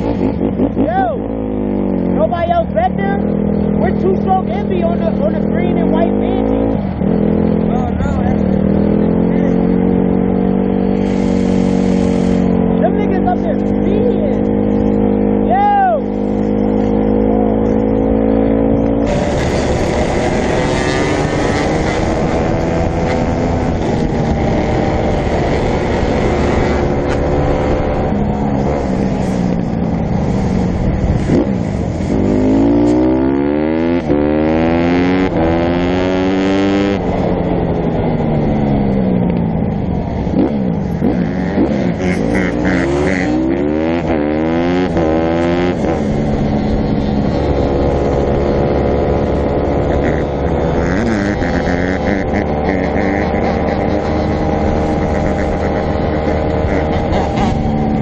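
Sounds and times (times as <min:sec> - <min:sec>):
dirt bike engines revving: 0:00.0 - 0:58.0
steady rushing noise: 0:02.2 - 0:58.0.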